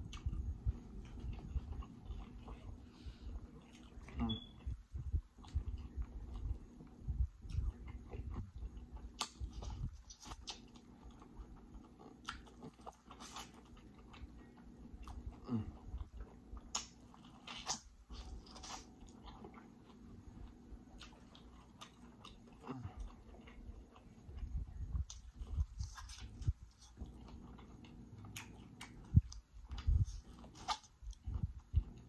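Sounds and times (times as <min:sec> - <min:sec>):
chewing and mouth smacks: 0:00.0 - 0:04.8, 0:05.4 - 0:32.0.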